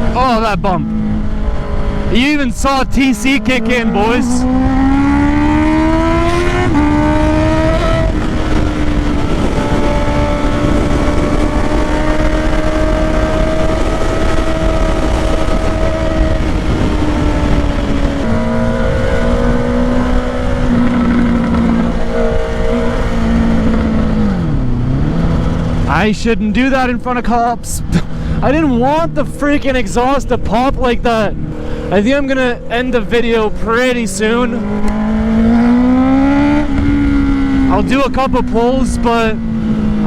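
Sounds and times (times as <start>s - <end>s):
motorcycle engine revving: 0.0s - 26.4s, 27.8s - 40.0s
rushing wind: 0.0s - 40.0s.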